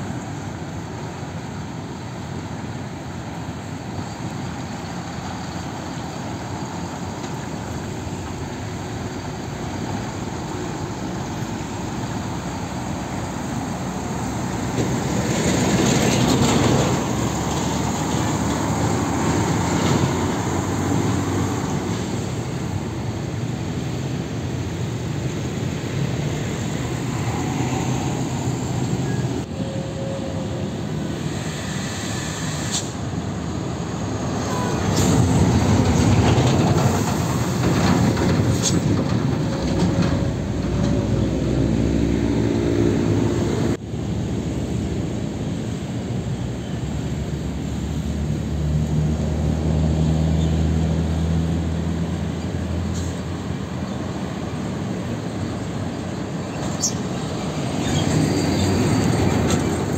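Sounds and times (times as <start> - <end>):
diesel trucks driving past: 0.0 - 59.9
traffic noise: 0.0 - 59.9.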